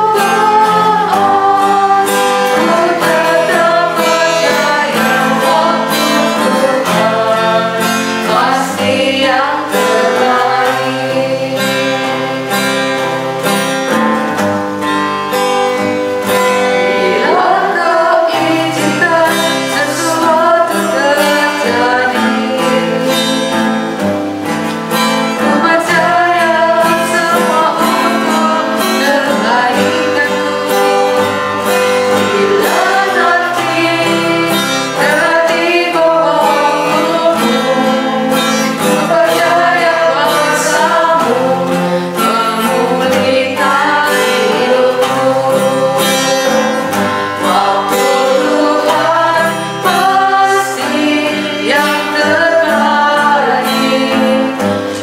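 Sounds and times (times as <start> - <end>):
woman singing worship song: 0.0 - 13.2, 15.8 - 55.0
guitar accompaniment: 0.0 - 55.0.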